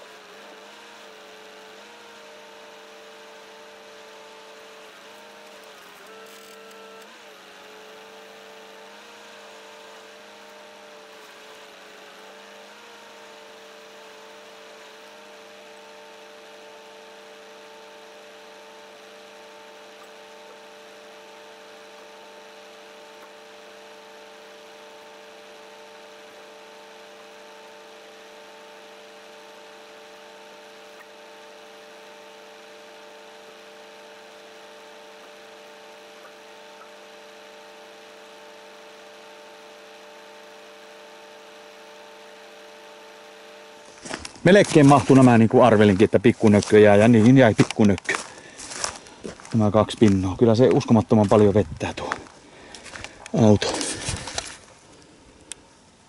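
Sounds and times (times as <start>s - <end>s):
truck engine running: 0.0s - 55.6s
hydraulic pump whining hum: 0.0s - 56.0s.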